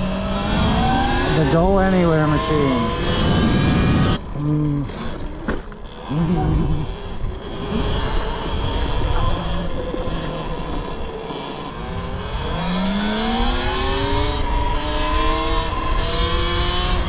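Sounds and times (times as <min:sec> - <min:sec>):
low riding rumble: 0:00.0 - 0:14.7
electric motor whining: 0:00.0 - 0:17.0.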